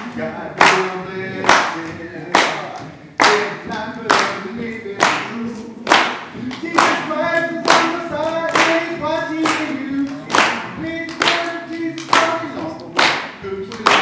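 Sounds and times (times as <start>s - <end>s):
group of people singing: 0.0s - 14.0s
hand claps: 0.6s - 14.0s.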